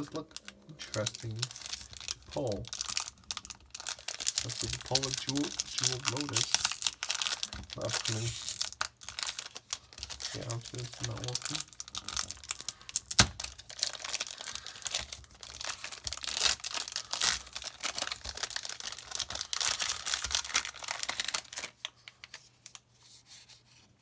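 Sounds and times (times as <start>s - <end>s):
foil wrapper tearing and crinkling: 0.0s - 22.8s.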